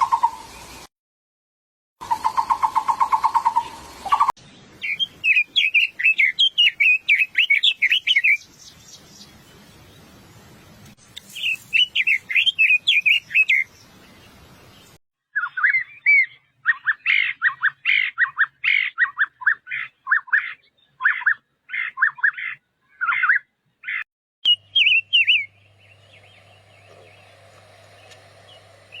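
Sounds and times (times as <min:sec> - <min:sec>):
bird singing quick chirps: 0:02.1 - 0:09.5, 0:11.2 - 0:29.0.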